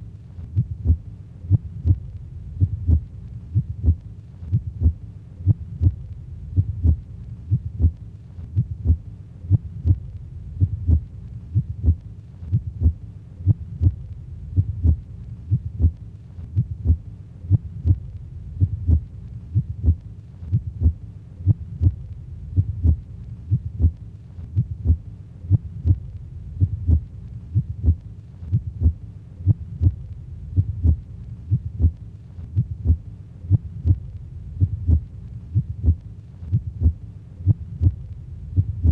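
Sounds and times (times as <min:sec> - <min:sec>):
heartbeat-like low thumps: 0:00.5 - 0:38.9.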